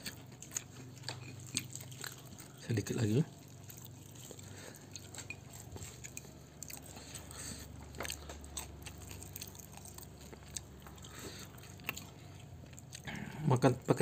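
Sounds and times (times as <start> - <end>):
person chewing and biting food: 0.0 - 13.7.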